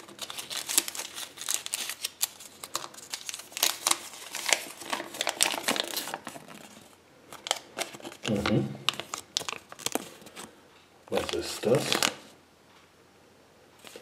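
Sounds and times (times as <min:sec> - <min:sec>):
wrapper crinkling: 0:00.0 - 0:10.5, 0:11.2 - 0:12.3.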